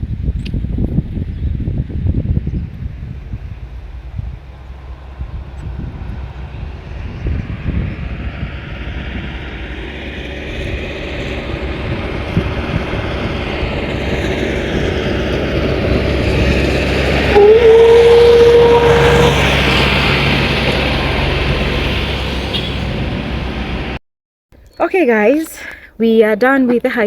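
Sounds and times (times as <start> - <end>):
engine rumble: 0.0 - 24.0.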